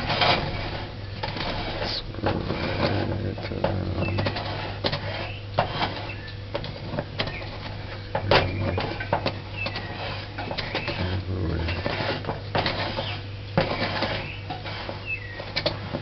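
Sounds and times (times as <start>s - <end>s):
knife scraping cake tin: 0.0s - 16.0s
steady low hum: 0.0s - 16.0s.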